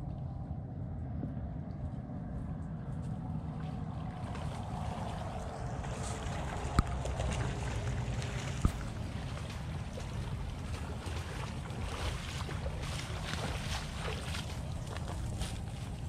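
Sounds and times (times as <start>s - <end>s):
wind rumble on microphone: 0.0s - 16.0s
wading through sloshing water: 2.8s - 16.0s.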